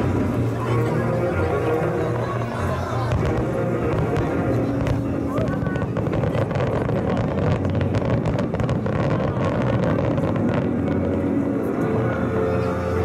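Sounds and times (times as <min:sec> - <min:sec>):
distant fireworks crackling: 0:00.0 - 0:13.0
low rumble: 0:00.0 - 0:13.0.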